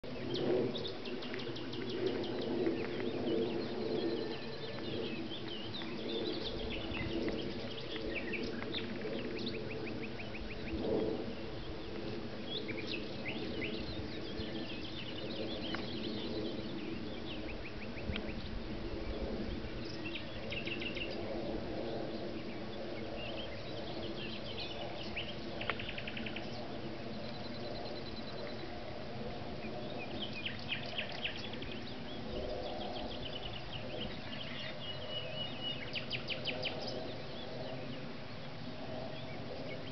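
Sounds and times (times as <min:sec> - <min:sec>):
low steady hum: 0:00.0 - 0:39.9
songbirds chirping and trilling: 0:00.0 - 0:39.9.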